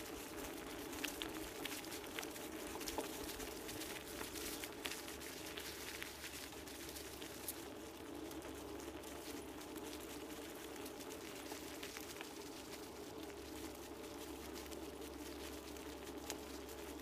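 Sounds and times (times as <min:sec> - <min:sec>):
scooter wheels rolling on dirt: 0:00.0 - 0:17.0.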